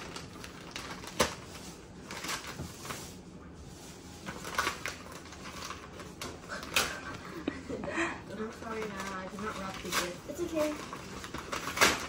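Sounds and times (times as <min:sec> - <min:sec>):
paper bag rustling and crinkling: 0:00.0 - 0:07.4, 0:08.3 - 0:12.0.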